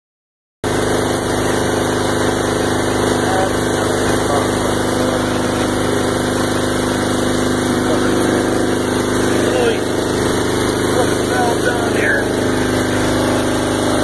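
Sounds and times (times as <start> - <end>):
engine idling: 0.6 - 14.0.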